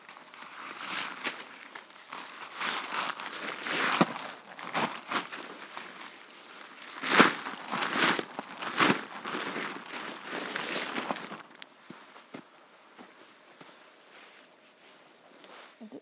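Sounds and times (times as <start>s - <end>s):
fabric rustling and flapping: 0.0s - 15.8s.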